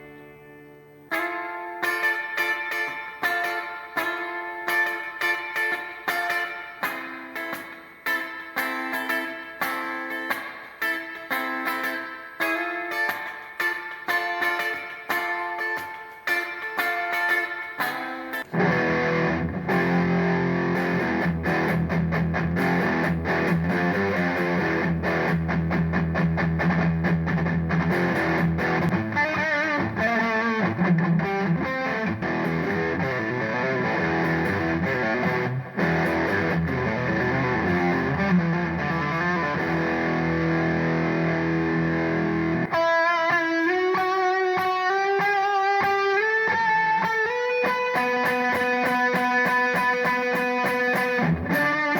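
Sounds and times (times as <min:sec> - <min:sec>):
clean single-note guitar line: 0:00.0 - 0:51.9
distorted electric guitar music: 0:00.0 - 0:51.9.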